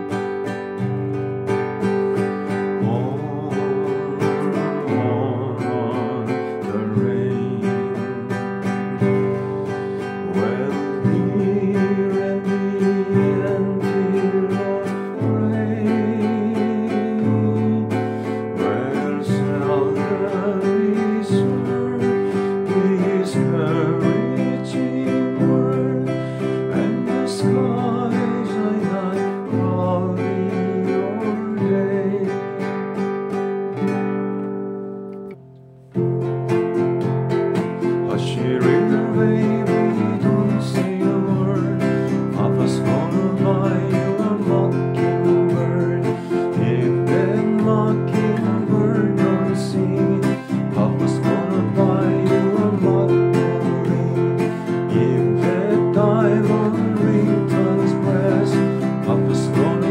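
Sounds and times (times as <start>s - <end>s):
classical guitar strumming chords: 0.0s - 59.9s.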